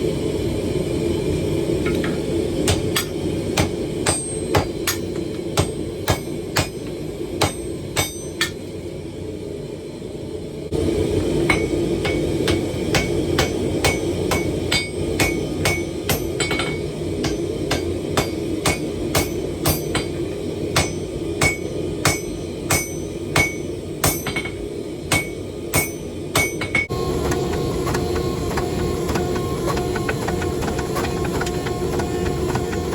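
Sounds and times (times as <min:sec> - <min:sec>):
hammer striking steel on anvil: 0:01.9 - 0:08.7, 0:11.4 - 0:32.9.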